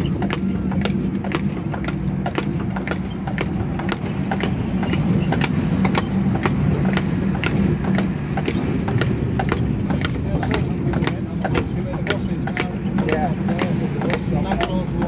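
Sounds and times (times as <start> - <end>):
horse hooves clip-clopping: 0.0 - 15.0
tramcar rumbling on rails: 0.0 - 15.0.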